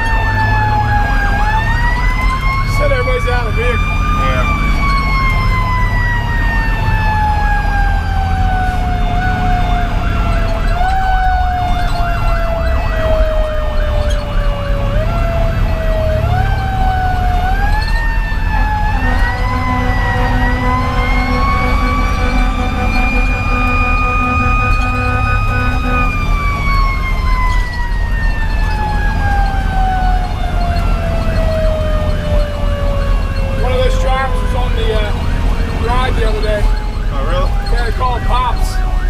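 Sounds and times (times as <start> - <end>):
diesel engine rumble: 0.0 - 39.0
electronic siren yelping: 0.0 - 39.0.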